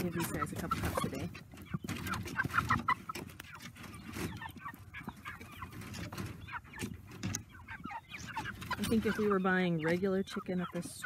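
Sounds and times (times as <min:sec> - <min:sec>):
chickens making short calls: 0:00.0 - 0:11.0.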